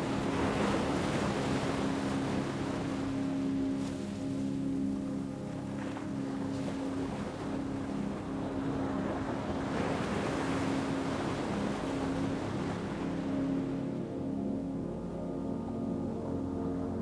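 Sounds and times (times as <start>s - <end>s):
low drone of held tones: 0.0s - 17.0s.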